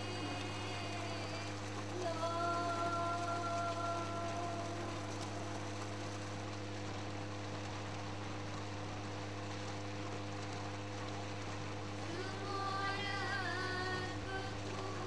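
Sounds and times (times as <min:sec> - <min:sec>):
constant hiss: 0:00.0 - 0:15.0
low electrical hum: 0:00.0 - 0:15.0.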